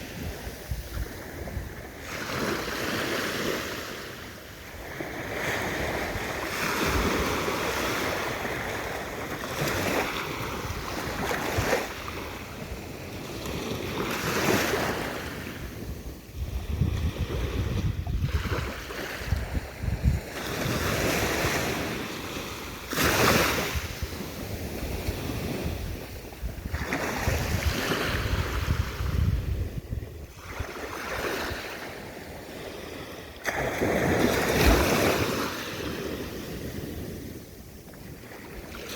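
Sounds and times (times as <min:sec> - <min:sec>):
wind buffeting microphone: 0:00.0 - 0:03.5, 0:04.8 - 0:38.9
ocean waves breaking on shore: 0:00.0 - 0:38.9.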